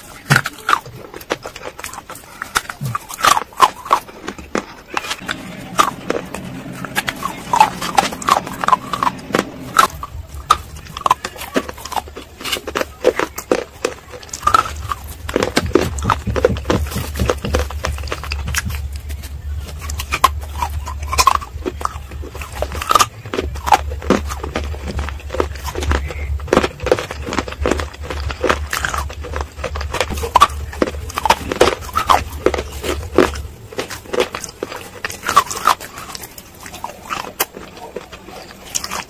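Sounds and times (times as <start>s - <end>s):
crunchy chewing: 0.0s - 39.0s
low steady hum: 0.0s - 39.0s.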